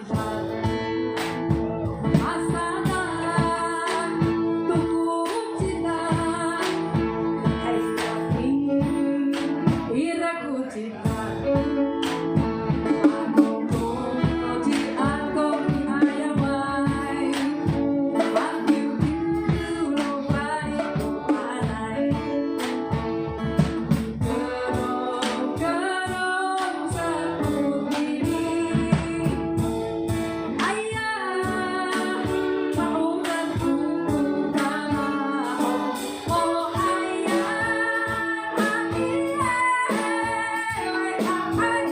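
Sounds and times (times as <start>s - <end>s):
guitar accompaniment: 0.0s - 41.9s
woman singing: 0.0s - 41.9s.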